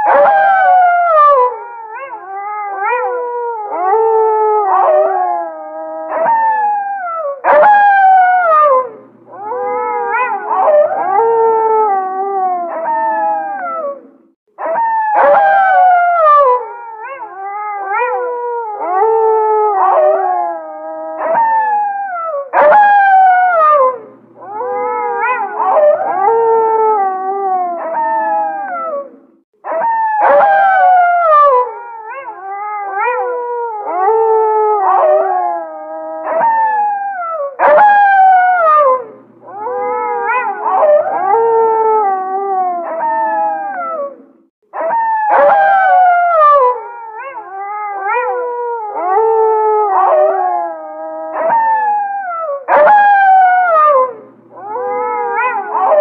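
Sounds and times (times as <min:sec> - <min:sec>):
wolves howling in chorus: 0:00.0 - 0:56.0.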